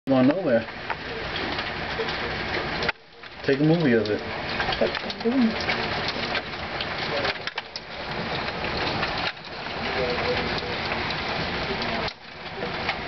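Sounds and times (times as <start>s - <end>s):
hail and rain pelting ground: 0.1s - 13.0s.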